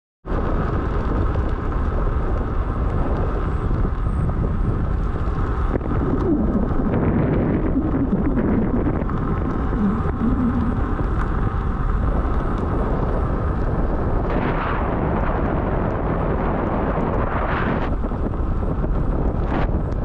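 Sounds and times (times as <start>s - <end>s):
rolling rumble of wheel: 0.2s - 20.0s
wind rush on microphone: 0.2s - 20.0s
wavering hum: 2.9s - 20.0s.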